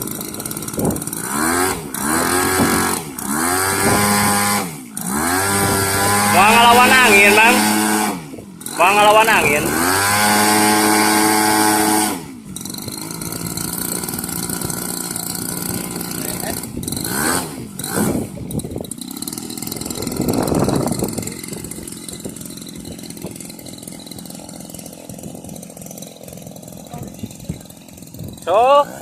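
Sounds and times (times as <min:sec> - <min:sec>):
two-stroke model plane engine: 0:00.0 - 0:29.0.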